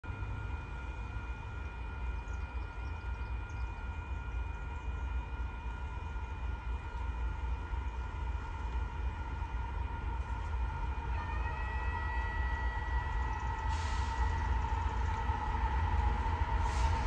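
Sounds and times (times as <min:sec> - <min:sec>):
distant freight train rumble: 0:00.0 - 0:17.0.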